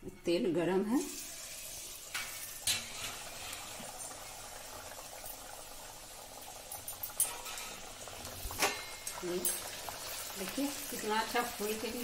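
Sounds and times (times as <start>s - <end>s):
oil sizzling and bubbling: 0.8s - 12.0s.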